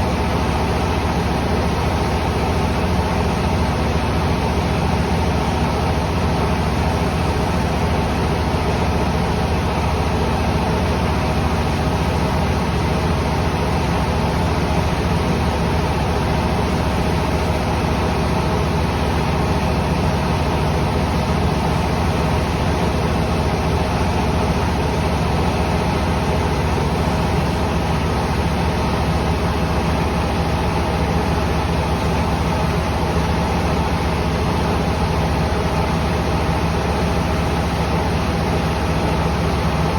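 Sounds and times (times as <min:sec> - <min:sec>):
mill machinery drone: 0:00.0 - 0:39.9.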